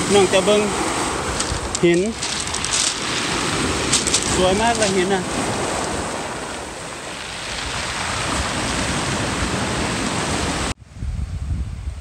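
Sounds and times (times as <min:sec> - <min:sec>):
surf washing over pebbles: 0:00.0 - 0:10.7
wind rumble on microphone: 0:00.0 - 0:12.0.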